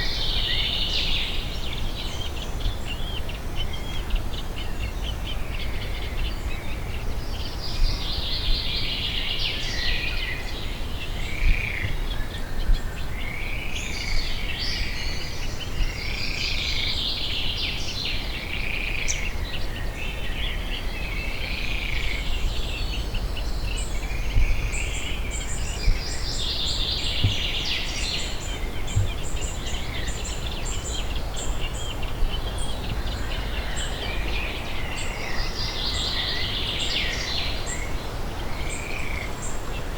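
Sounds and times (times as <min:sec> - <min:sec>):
low rumble of background noise: 0:00.0 - 0:39.9
songbirds singing: 0:00.0 - 0:39.9.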